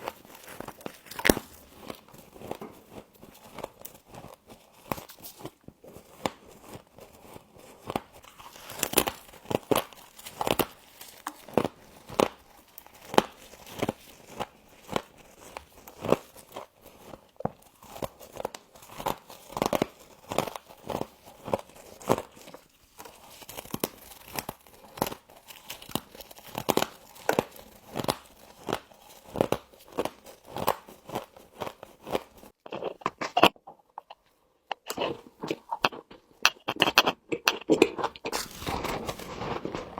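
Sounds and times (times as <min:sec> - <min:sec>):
frost crunching while chewed: 0:00.0 - 0:39.9.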